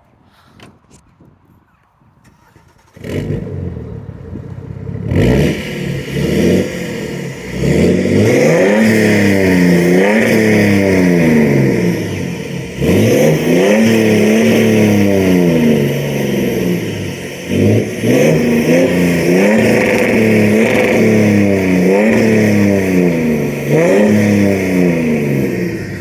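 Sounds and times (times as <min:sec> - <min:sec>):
diesel engine starting and revving: 0:02.2 - 0:26.0.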